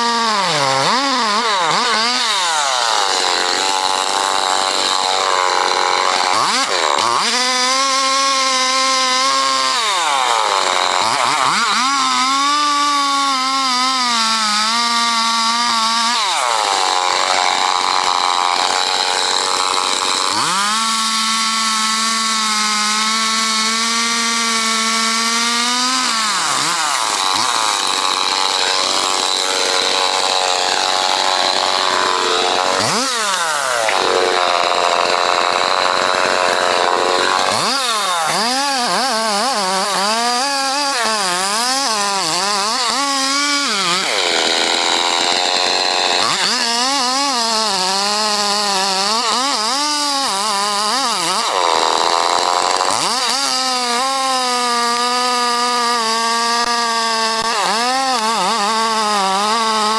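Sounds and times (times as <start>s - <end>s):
chainsaw cutting tree trunk: 0.0s - 59.9s.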